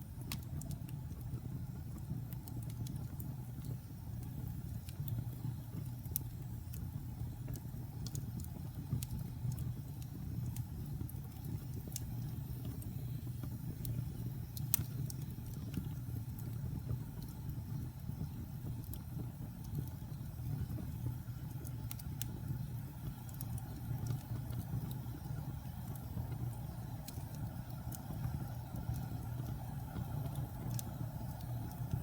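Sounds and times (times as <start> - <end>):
wood fire crackling in a fireplace: 0.0 - 32.0.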